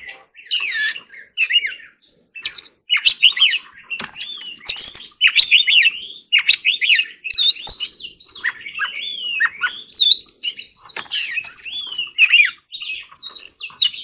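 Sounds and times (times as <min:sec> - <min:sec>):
bird song whistles and chatter: 0:00.0 - 0:14.0.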